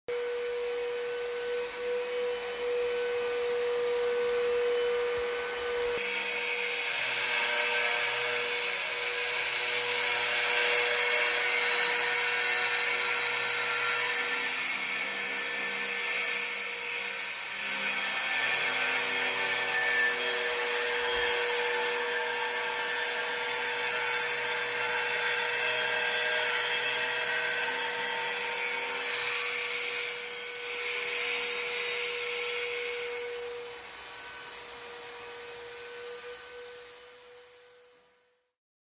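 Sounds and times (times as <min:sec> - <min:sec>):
power saw cutting concrete: 0:00.2 - 0:37.6.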